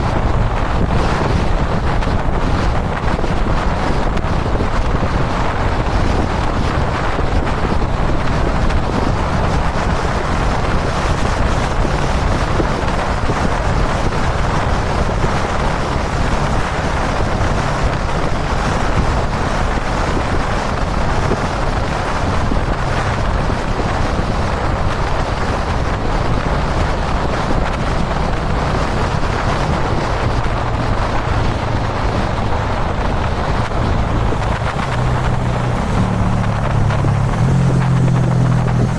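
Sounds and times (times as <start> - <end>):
motorcycle engine droning: 0.0 - 38.9
wind rushing over microphone: 0.0 - 38.9.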